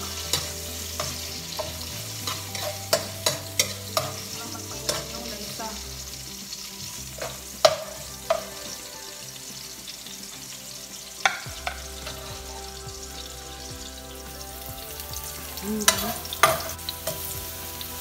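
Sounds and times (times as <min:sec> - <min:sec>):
ginger sizzling in a wok: 0:00.0 - 0:18.0.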